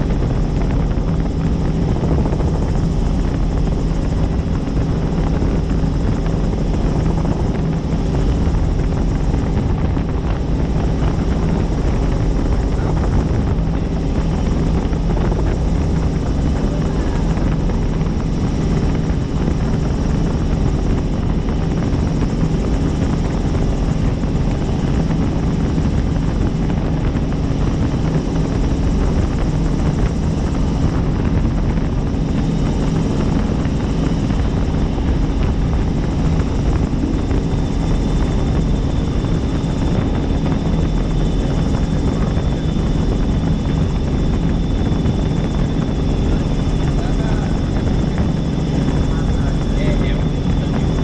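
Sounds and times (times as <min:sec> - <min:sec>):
helicopter in flight: 0:00.0 - 0:51.0.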